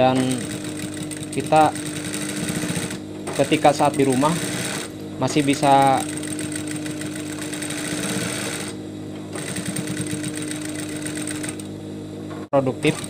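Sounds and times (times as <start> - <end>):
sewing machine motor hum: 0.0 - 11.8, 12.6 - 13.0
sewing machine needle stitching: 0.1 - 8.8, 9.4 - 11.7.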